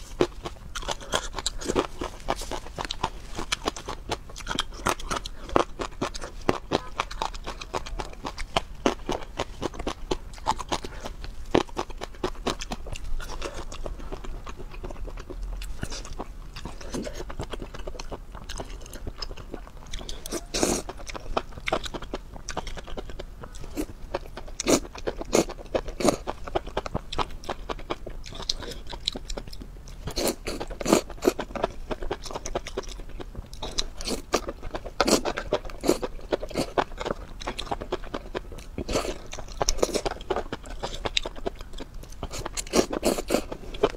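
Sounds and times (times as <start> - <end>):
chewing and crunching: 0.0 - 43.9.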